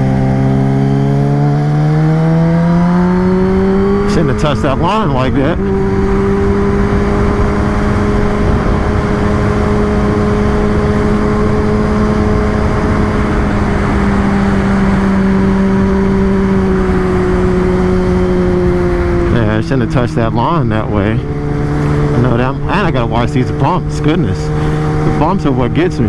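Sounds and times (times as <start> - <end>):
motorcycle engine at cruising revs: 0.0 - 26.0.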